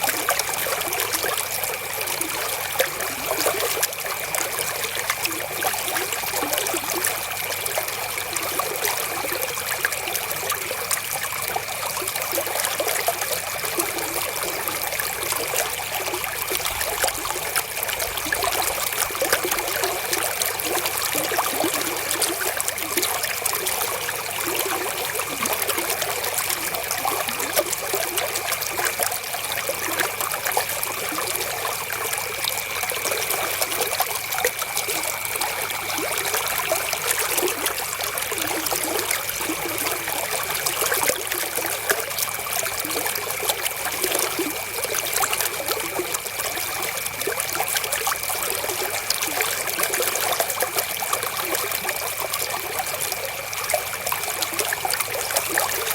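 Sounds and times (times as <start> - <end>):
river water flowing: 0.0 - 55.9
water drips and splashes: 0.0 - 55.9.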